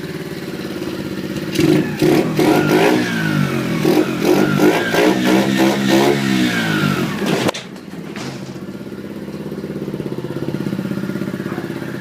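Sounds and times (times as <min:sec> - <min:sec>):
dirt bike engine revving and idling: 0:00.0 - 0:12.0.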